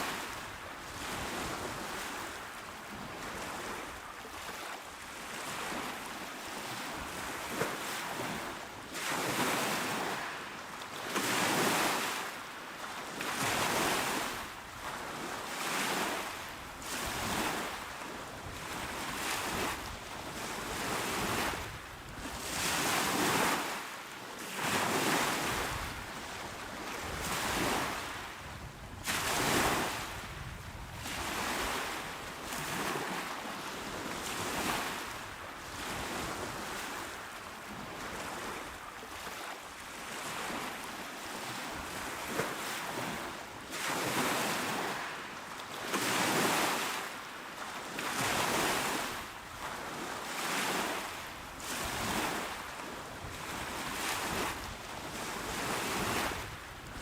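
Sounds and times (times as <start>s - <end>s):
small waves washing onto shore: 0.0s - 57.0s.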